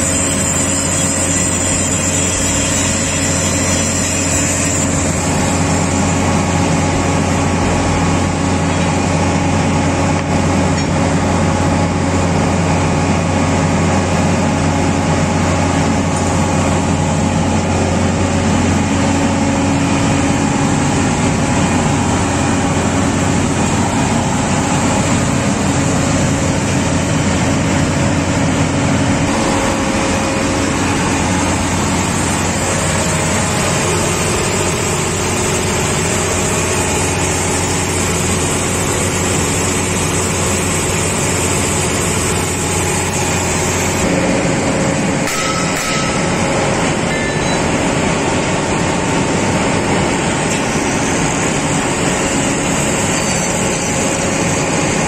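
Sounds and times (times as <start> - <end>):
heavy machinery droning: 0.0 - 55.0.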